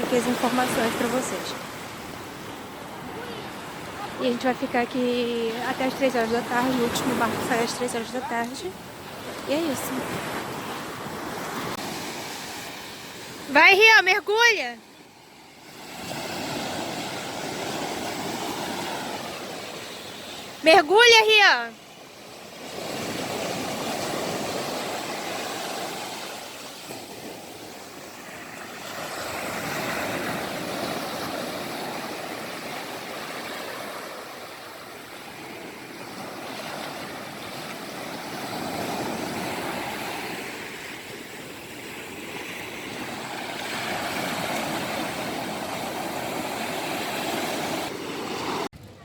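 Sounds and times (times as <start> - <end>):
sea waves washing onto beach: 0.0 - 48.7.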